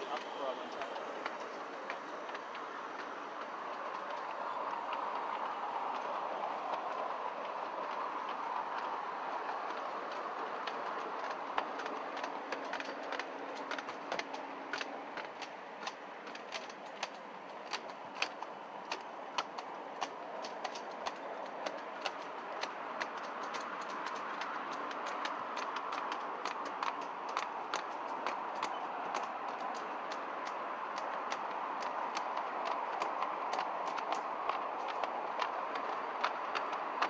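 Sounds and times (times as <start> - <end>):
train wheels rushing on track: 0.0 - 37.0
wheels clicking over rail joints: 0.0 - 37.0.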